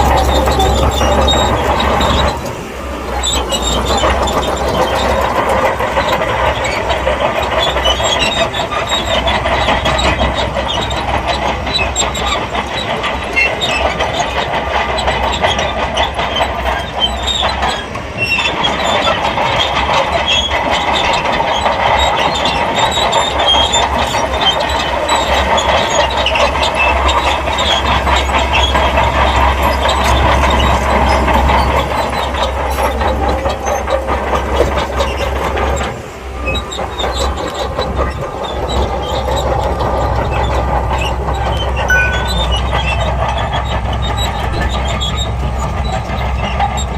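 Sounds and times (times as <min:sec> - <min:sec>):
bulldozer diesel engine running: 0:00.0 - 0:46.9
metallic clatter of steel tracks: 0:00.0 - 0:46.9.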